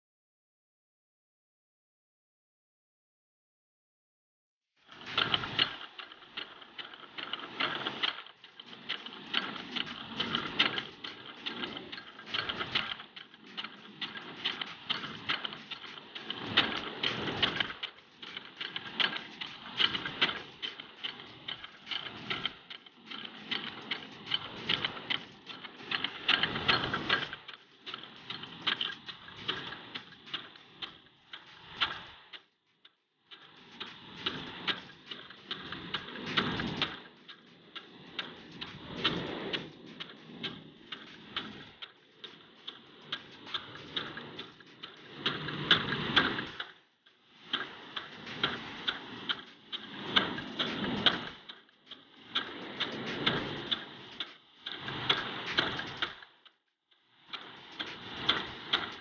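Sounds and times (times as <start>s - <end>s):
sprinkler arm ticking: 4.9s - 59.0s.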